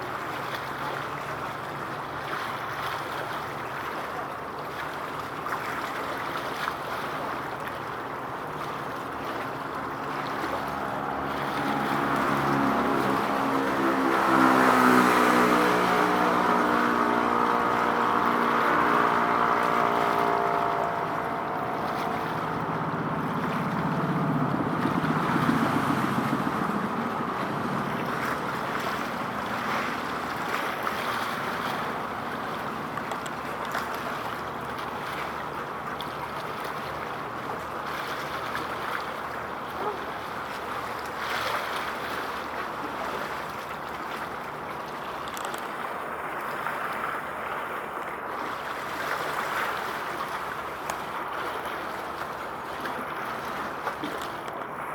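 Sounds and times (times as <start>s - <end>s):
boat engine passing: 0.0s - 54.9s
wind and water rushing: 0.0s - 54.9s.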